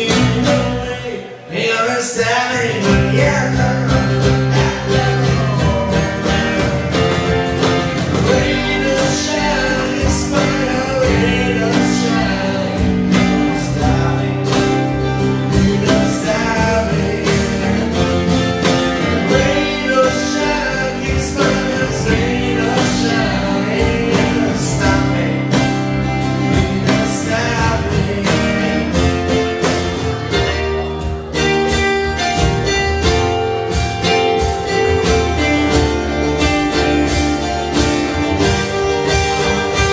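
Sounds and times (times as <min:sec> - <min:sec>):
guitar: 0:00.0 - 0:39.9
steady drum beat: 0:02.8 - 0:39.9.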